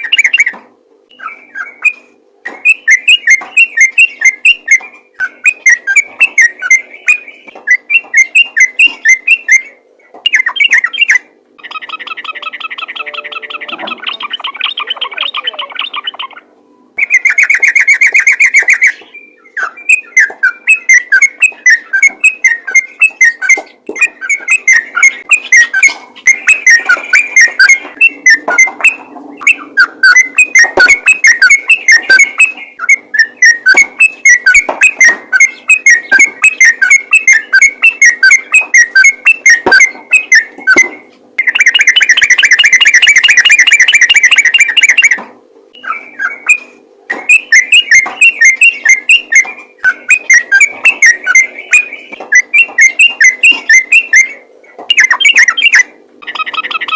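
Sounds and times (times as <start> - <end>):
bird chirping song: 0.0 - 56.9
buzzy bird trills: 0.0 - 56.9.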